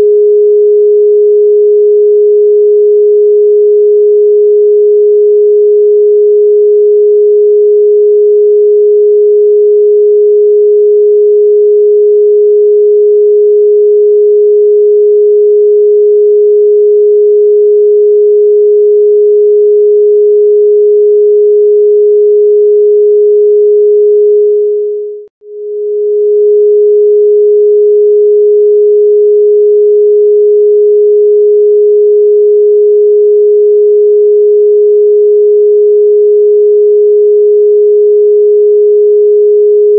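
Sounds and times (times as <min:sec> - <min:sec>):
electronic sine tone: 0:00.0 - 0:39.9.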